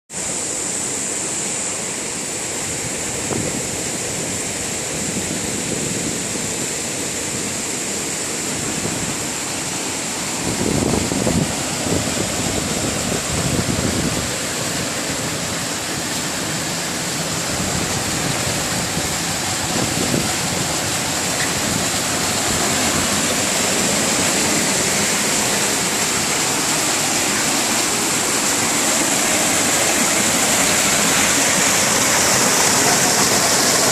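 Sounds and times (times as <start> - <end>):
low water surges: 0.1 - 33.9
waterfall rushing: 0.2 - 33.9.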